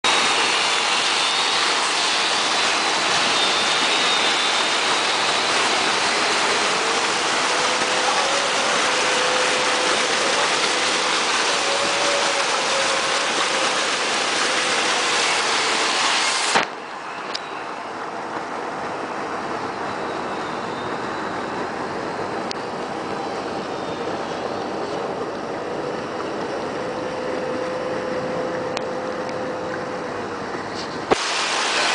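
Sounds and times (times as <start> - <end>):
water rushing over a weir: 0.1 - 31.9.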